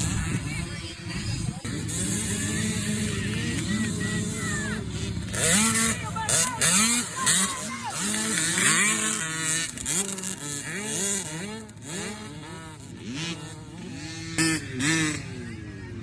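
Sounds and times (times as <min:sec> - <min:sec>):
dirt bikes revving: 0:00.0 - 0:16.0.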